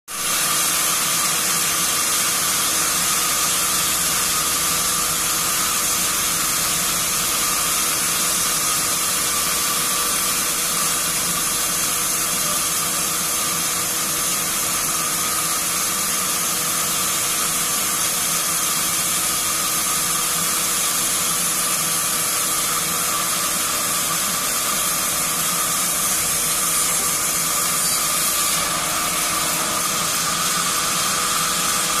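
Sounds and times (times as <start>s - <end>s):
band saw cutting log: 0.1s - 32.0s.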